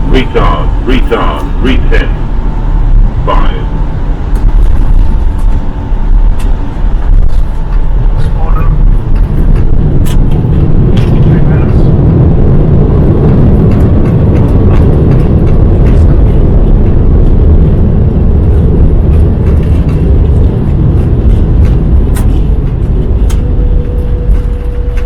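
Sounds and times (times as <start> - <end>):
aircraft wheels and engines rumbling: 0.0 - 25.0
steady tone: 0.0 - 25.0.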